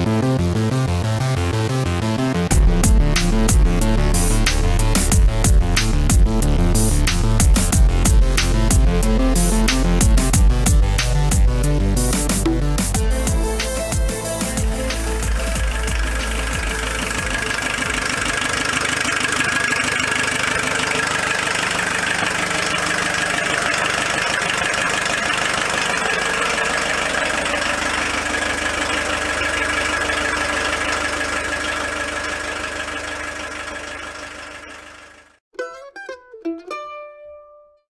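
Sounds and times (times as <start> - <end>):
camper van engine idling: 2.5 - 35.3.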